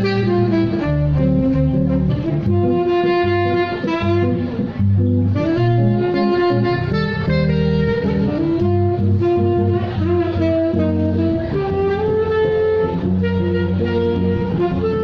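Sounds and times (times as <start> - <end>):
plucked bass line: 0.0 - 15.0
saxophone melody: 0.0 - 15.0.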